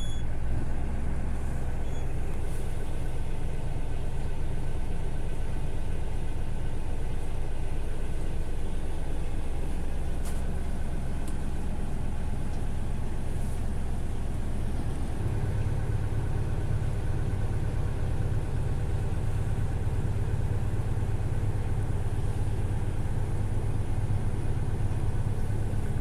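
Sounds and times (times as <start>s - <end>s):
boat engine drone: 0.0s - 26.0s.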